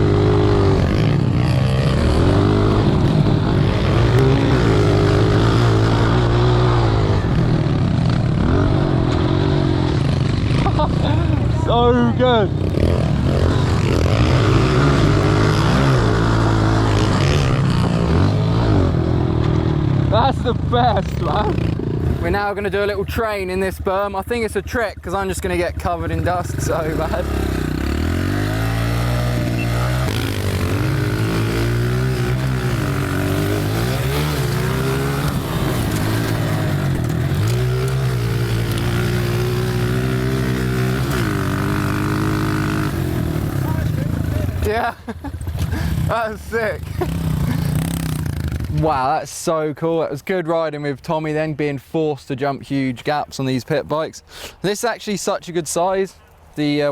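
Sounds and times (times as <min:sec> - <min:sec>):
pit bike engine revving: 0:00.0 - 0:49.1.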